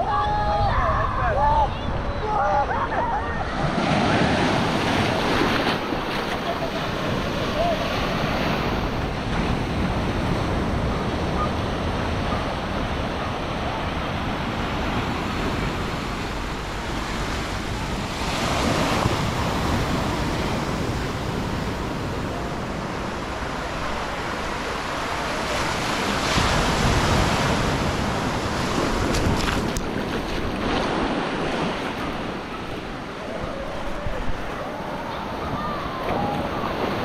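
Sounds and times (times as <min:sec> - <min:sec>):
wind buffeting microphone: 0:00.0 - 0:37.0
sea surf breaking on beach: 0:00.1 - 0:37.0.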